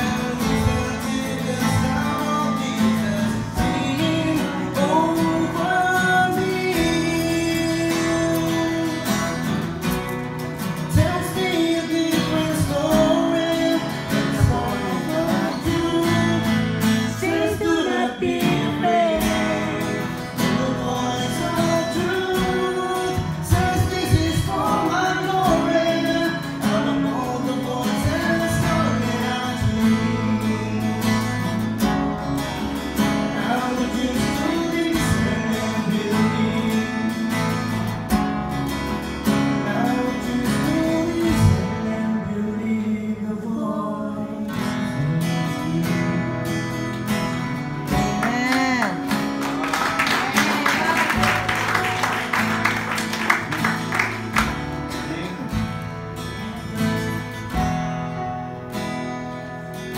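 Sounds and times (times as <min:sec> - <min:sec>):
man singing: 0:00.0 - 0:10.0, 0:10.7 - 0:38.4, 0:39.2 - 0:52.7, 0:53.3 - 0:57.8
acoustic guitar strumming: 0:00.0 - 0:59.9.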